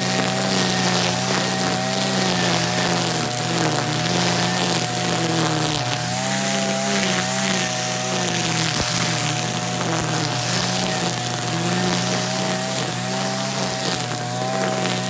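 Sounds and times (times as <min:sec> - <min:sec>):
brush cutter cutting grass: 0:00.0 - 0:15.0.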